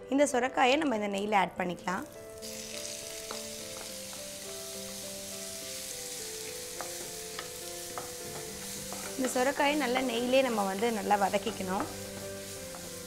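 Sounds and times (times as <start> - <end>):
soft background music: 0.0 - 13.0
food sizzling in a frying pan: 2.0 - 13.0.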